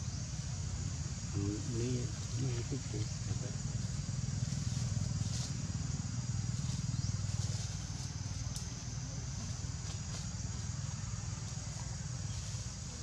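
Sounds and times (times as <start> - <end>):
engine humming: 0.0 - 13.0
faint high hiss: 0.0 - 13.0.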